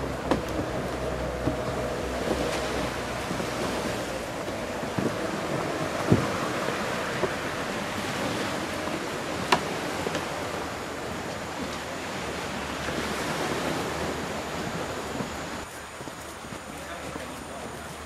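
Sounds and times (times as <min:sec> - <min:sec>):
wind buffeting microphone: 0:00.0 - 0:17.2
sea surf rushing: 0:00.0 - 0:18.0.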